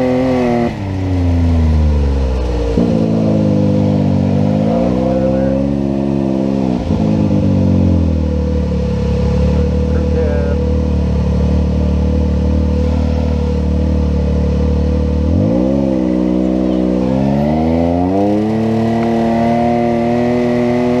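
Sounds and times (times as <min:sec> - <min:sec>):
utility vehicle engine revving: 0:00.0 - 0:21.0.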